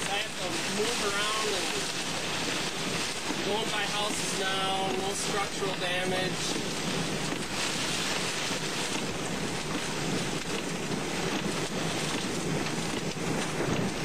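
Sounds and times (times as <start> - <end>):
heavy rain on a car: 0.0 - 14.0
storm wind: 0.0 - 14.0.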